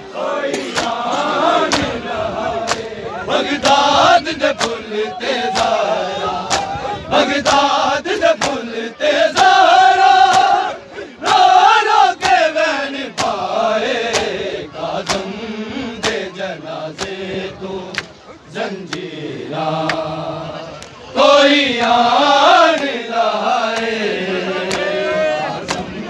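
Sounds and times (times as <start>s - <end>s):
men chanting: 0.0s - 26.0s.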